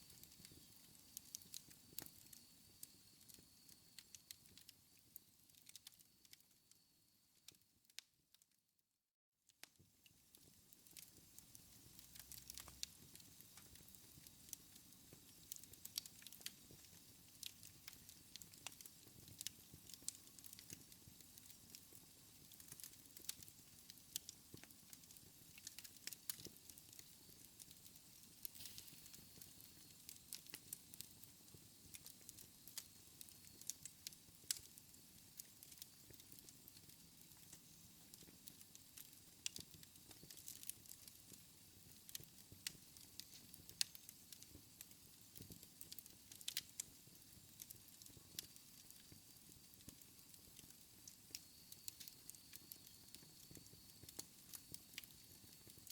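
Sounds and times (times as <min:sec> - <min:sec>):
wood fire crackling: 0:00.0 - 0:06.8, 0:10.3 - 0:55.9.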